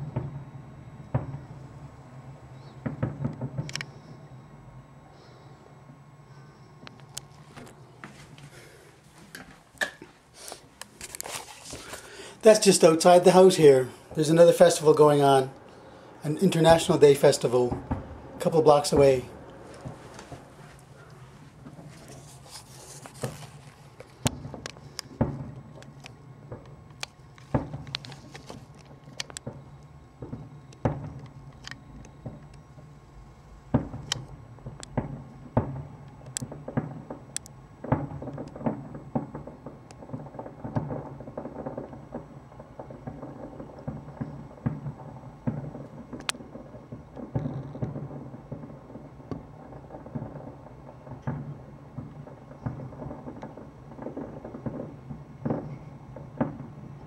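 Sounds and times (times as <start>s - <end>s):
fireworks booms and cracks: 0.0s - 4.5s, 11.6s - 57.0s
low steady hum: 0.0s - 57.0s.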